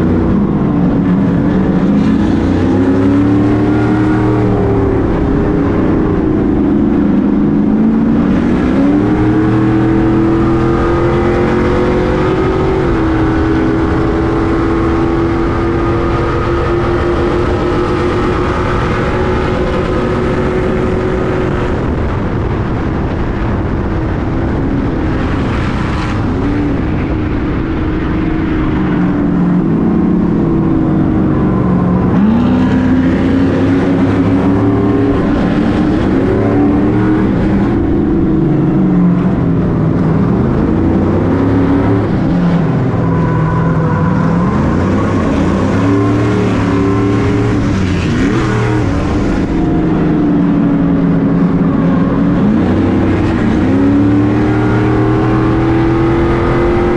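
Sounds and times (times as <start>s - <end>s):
racing engine revving: 0.0s - 56.9s.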